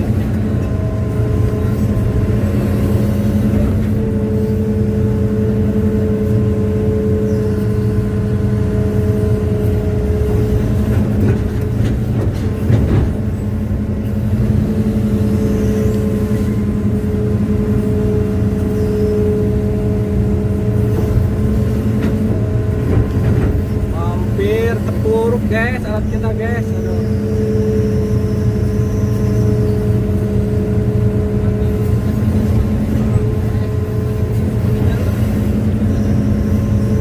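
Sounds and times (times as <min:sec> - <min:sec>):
excavator diesel engine running: 0:00.0 - 0:37.0
hydraulic whine: 0:00.0 - 0:37.0.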